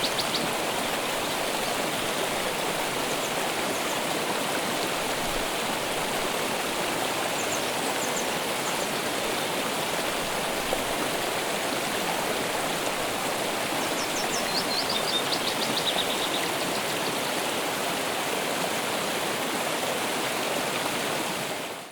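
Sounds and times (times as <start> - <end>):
stream flowing: 0.0 - 21.9.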